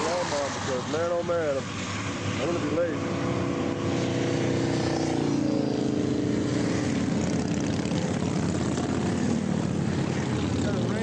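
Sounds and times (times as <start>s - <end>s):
motorcycle engine running: 2.1s - 11.0s.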